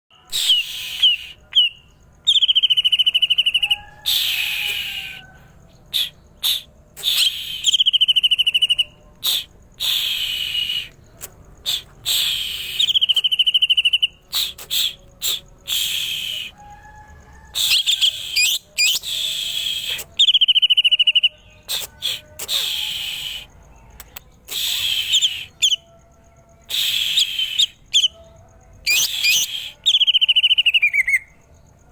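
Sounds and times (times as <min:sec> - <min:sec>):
bird singing with trills: 0:00.2 - 0:17.0, 0:17.6 - 0:31.5.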